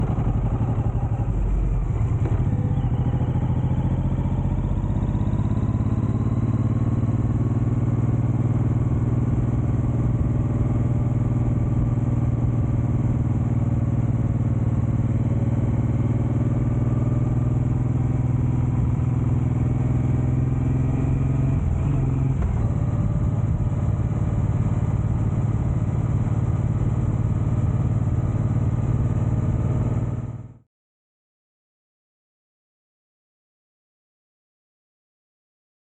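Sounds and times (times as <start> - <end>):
motorcycle engine running: 0.0 - 30.6.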